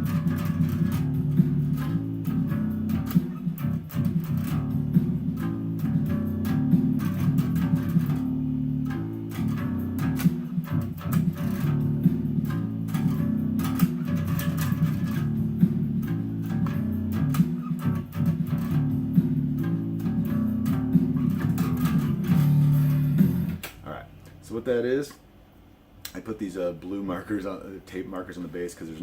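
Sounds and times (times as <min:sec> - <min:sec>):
fretless bass guitar line: 0:00.0 - 0:25.0.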